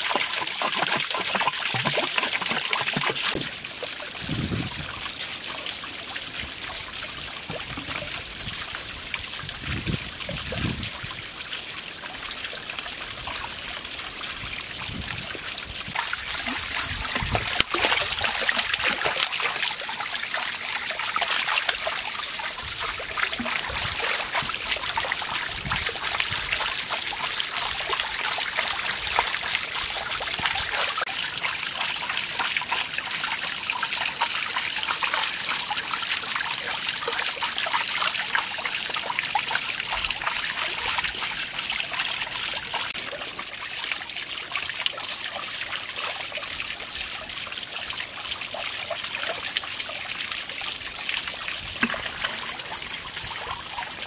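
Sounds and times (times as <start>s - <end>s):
water poured into pond: 0.0s - 54.0s
water splashing and trickling: 0.0s - 54.0s.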